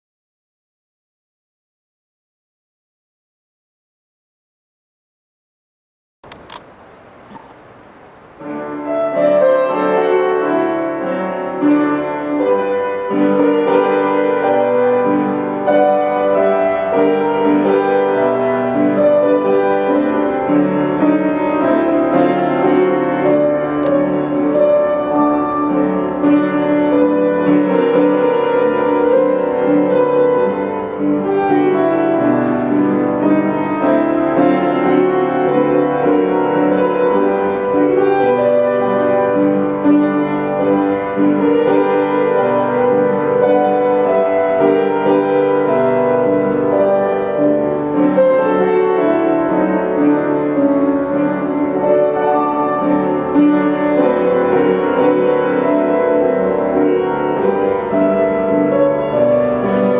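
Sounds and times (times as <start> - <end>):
classical piano music: 6.2 - 59.9.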